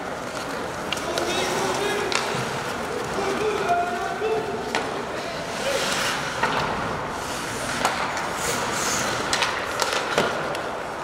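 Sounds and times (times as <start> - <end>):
hockey sticks clacking: 0.0 - 11.0
skate blades scraping ice: 0.1 - 11.0.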